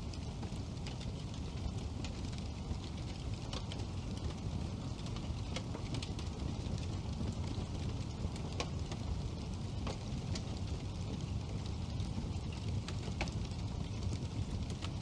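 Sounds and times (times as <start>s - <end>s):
burning wood crackling and popping: 0.0s - 15.0s
fireplace flames rumbling: 0.0s - 15.0s.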